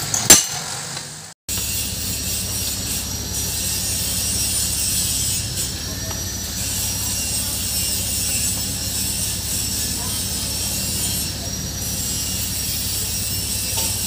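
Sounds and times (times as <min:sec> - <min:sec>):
low mechanical hum: 0:00.0 - 0:14.0
high-pitched whine: 0:01.5 - 0:14.0.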